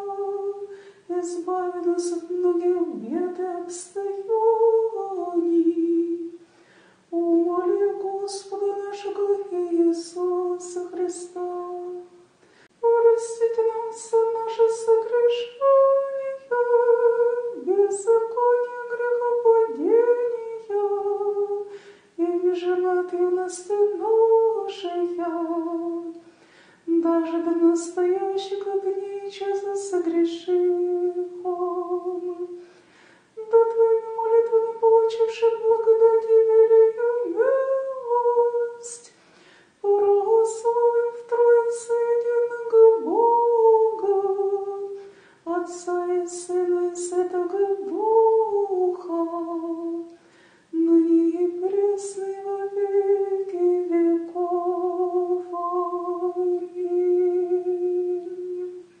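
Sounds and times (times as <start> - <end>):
woman singing unaccompanied prayer: 0.0 - 6.5, 7.1 - 12.2, 12.8 - 32.7, 33.4 - 39.2, 39.8 - 59.0.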